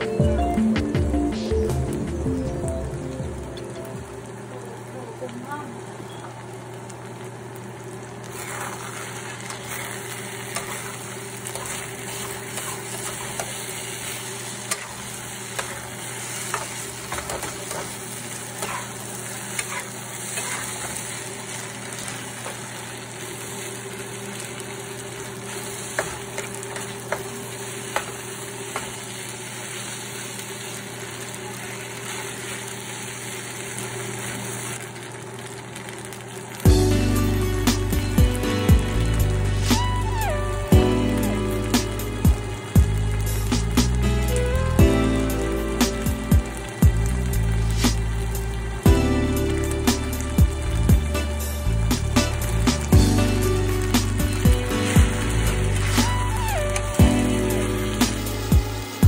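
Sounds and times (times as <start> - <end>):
food sizzling in a frying pan: 0.0 - 59.0.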